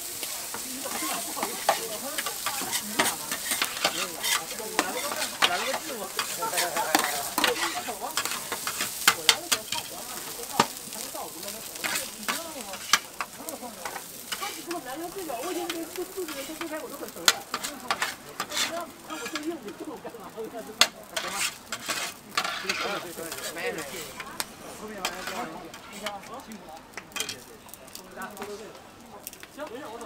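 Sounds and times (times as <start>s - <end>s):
food sizzling: 0.0s - 30.0s
metal spatulas scraping on griddle: 0.1s - 26.4s, 27.1s - 27.5s.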